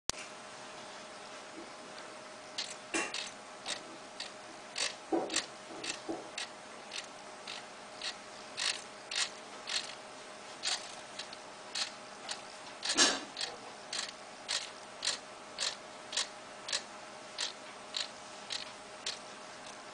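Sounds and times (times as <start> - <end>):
faint steady hum: 0.2 - 19.9.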